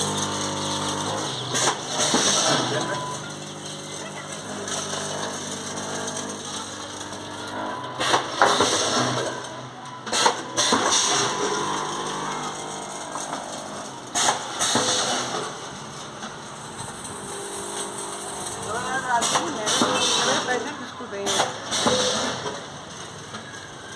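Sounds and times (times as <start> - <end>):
machine clattering bursts: 0.0 - 23.9
packing machine humming: 0.0 - 23.9.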